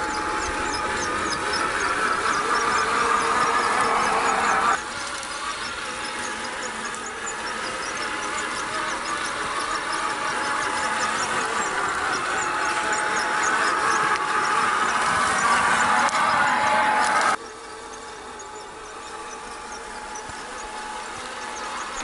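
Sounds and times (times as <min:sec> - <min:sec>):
toy car electric motor whining: 0:00.0 - 0:22.0.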